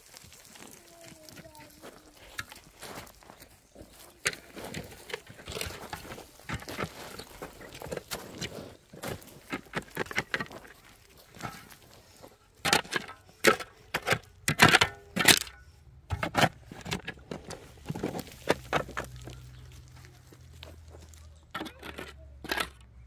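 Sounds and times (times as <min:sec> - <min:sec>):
shovel digging stony soil: 0:00.1 - 0:22.8.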